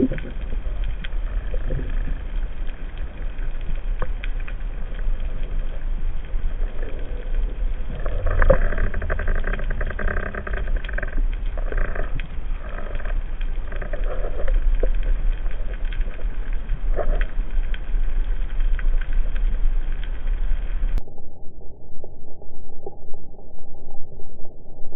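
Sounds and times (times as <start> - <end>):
swishing water swells: 0.0 - 21.0
underwater rumble of moving water: 0.0 - 24.9.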